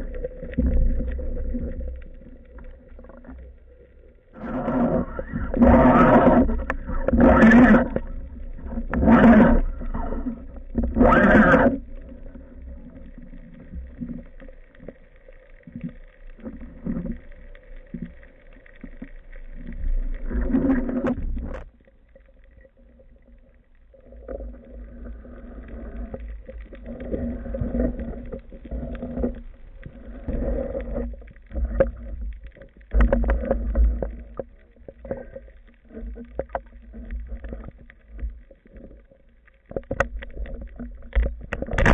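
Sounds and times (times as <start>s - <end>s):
muffled underwater noise: 0.0s - 41.9s.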